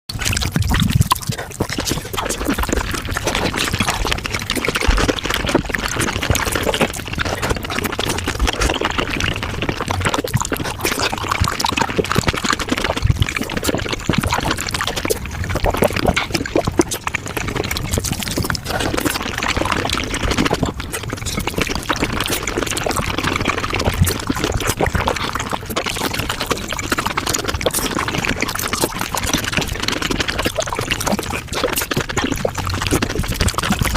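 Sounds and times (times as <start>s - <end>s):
wet slurping and chewing: 0.1s - 33.9s.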